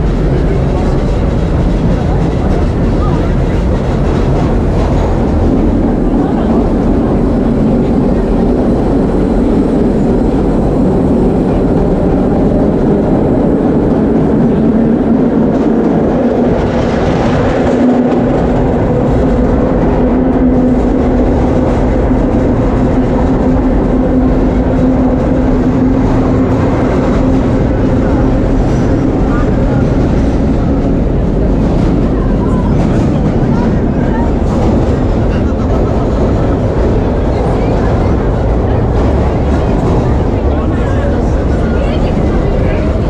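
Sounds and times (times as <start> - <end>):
subway train wheels rumbling on rail: 0.0 - 43.0.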